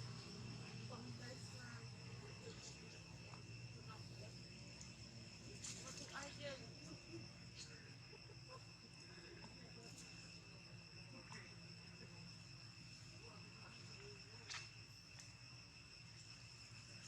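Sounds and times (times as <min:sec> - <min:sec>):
high-pitched insect trilling: 0:00.0 - 0:17.0.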